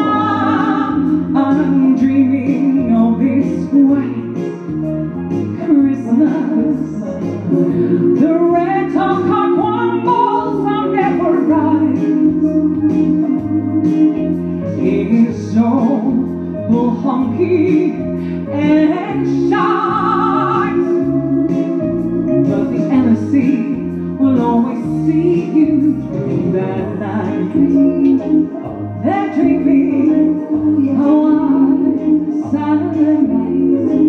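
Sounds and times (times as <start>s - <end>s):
woman singing: 0.0s - 4.7s, 5.6s - 34.0s
musical accompaniment with bass: 0.0s - 34.0s.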